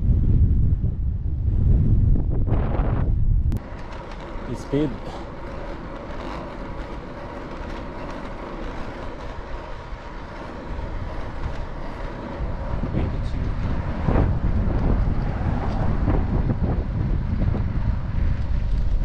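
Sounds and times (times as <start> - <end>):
deep rumble: 0.0 - 19.0
road and wind noise: 0.0 - 19.0.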